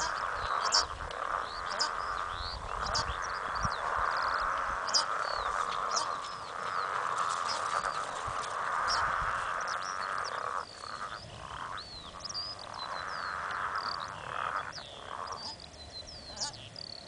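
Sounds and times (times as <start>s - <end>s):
birds chirping: 0.0s - 17.0s
frogs calling: 0.0s - 17.0s.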